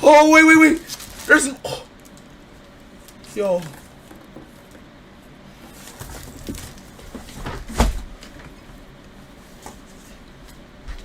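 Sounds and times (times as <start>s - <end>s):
handling knocks and rustles: 2.0s - 11.0s.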